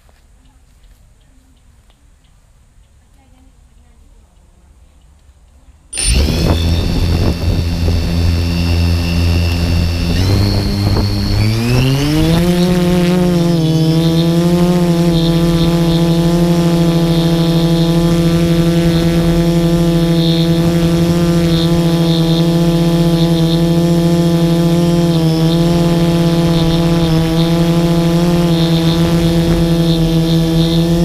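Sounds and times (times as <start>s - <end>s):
drone propellers buzzing: 5.9s - 31.0s.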